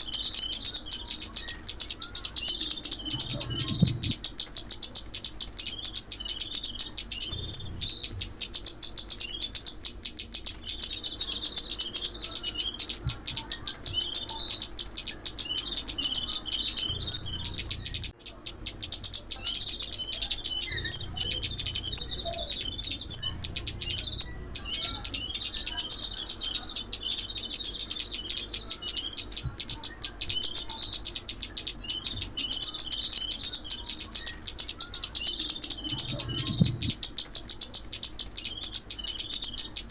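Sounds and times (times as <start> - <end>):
sunbirds twittering: 0.0 - 39.9.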